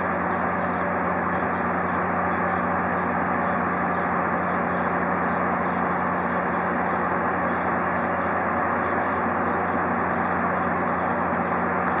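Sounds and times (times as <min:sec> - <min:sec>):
locomotive engine idling: 0:00.0 - 0:12.0.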